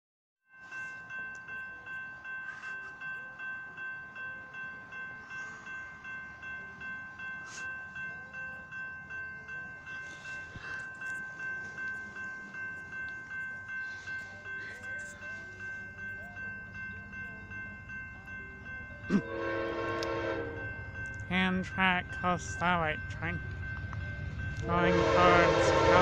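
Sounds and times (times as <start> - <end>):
railroad crossing bell ringing: 0.5 - 26.0.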